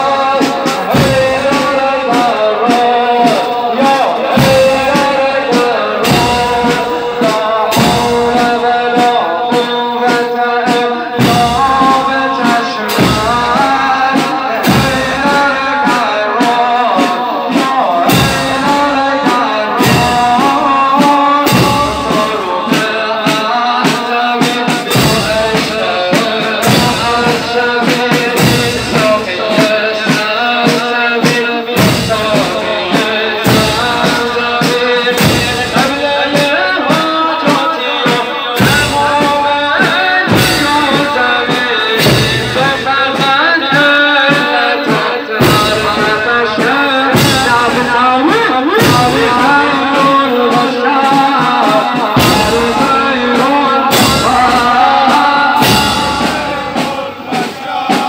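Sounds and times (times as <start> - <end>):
male voices chanting a lament: 0.0 - 58.0
slow drum beats: 0.0 - 58.0.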